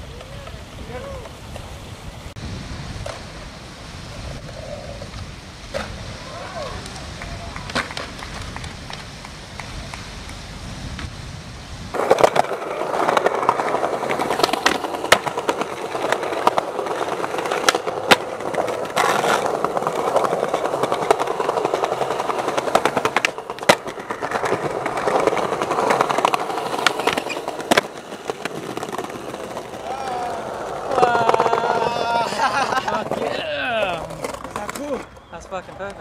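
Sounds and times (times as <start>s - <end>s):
skateboard clacks: 0.0s - 1.8s, 4.5s - 11.1s, 11.9s - 36.0s
skateboard wheels rolling on concrete: 0.0s - 36.0s.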